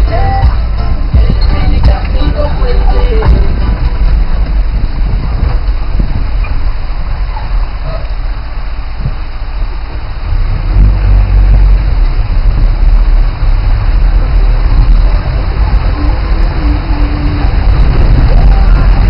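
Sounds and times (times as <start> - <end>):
engine rumbling under load: 0.0 - 19.0.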